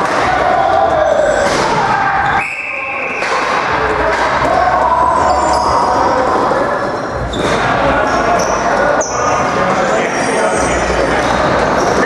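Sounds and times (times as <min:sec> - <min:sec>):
players' voices and calls: 0:00.0 - 0:12.0.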